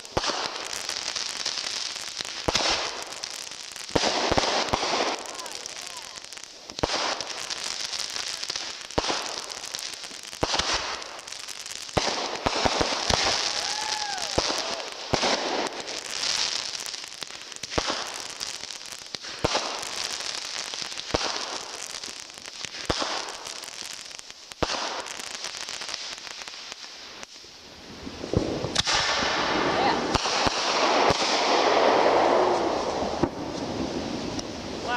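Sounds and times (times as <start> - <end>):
fireworks banging: 0.0 - 27.4, 28.2 - 34.9
firework crackling: 0.0 - 34.9.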